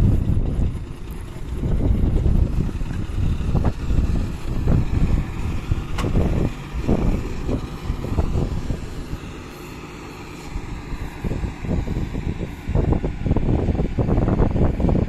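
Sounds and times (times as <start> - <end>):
digging machine diesel engine: 0.0 - 15.0.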